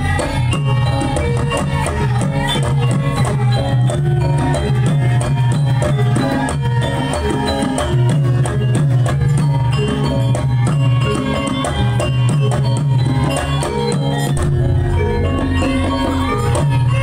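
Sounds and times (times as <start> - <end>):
hand drum strokes: 0.0 - 17.0
struck metallophones melody: 0.0 - 17.0.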